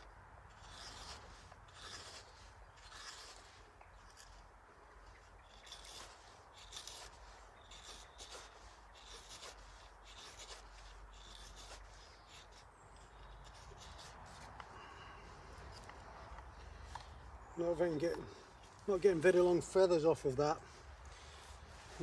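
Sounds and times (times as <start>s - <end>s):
knife scraping wood: 0.0s - 19.7s, 20.6s - 22.0s.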